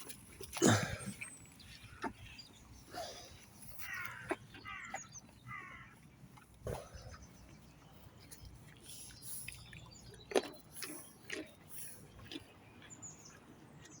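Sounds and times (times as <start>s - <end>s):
horses chewing food: 0.0s - 14.0s.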